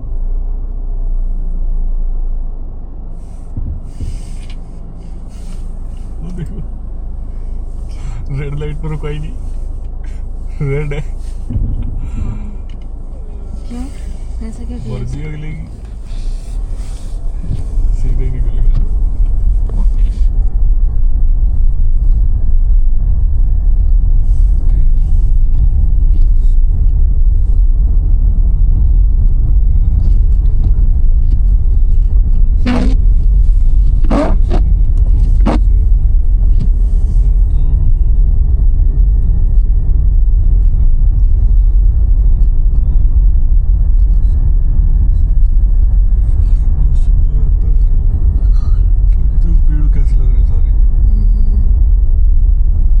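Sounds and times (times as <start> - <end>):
car interior rumble: 0.0 - 53.0.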